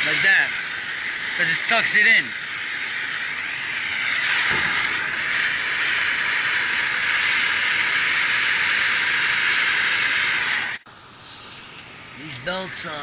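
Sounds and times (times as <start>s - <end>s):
pressurised spray jet hissing: 0.0s - 11.8s.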